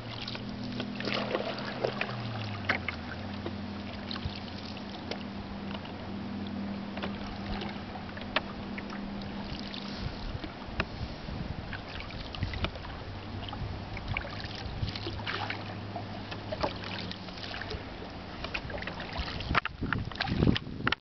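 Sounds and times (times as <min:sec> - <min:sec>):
water dripping off paddle: 0:00.0 - 0:11.0, 0:11.7 - 0:20.6
paddle splashing through water: 0:00.0 - 0:21.0.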